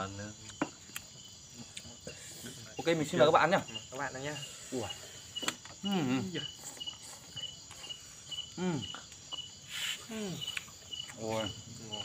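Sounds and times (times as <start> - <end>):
crickets chirping: 0.0 - 12.0
high insect drone: 0.0 - 12.0.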